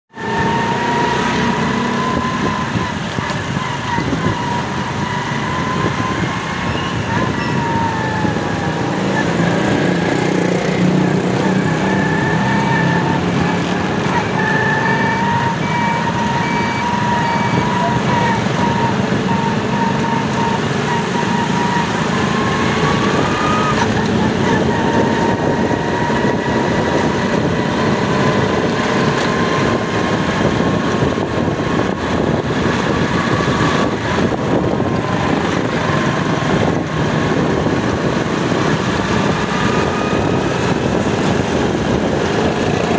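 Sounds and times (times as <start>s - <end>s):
motorcycle engine running: 0.1s - 42.9s
wind noise on microphone: 0.2s - 42.9s.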